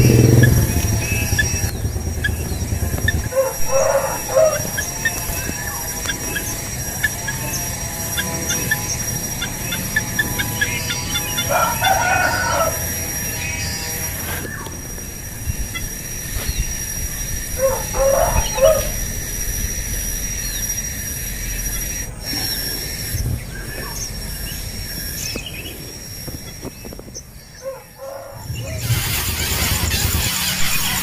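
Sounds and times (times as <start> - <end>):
low background rumble: 0.0 - 27.6
birds chirping and calling: 0.0 - 31.0.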